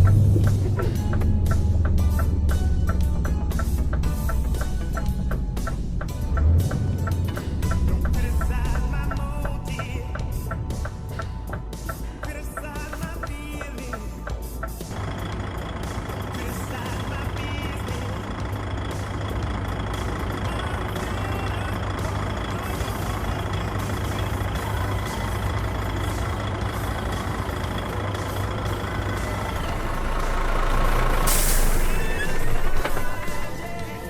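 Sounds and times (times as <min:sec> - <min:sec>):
truck engine and road drone: 0:00.0 - 0:34.0.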